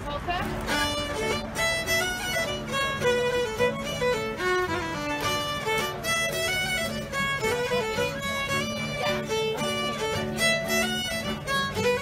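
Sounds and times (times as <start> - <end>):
fiddle bowed melody: 0.0 - 12.0.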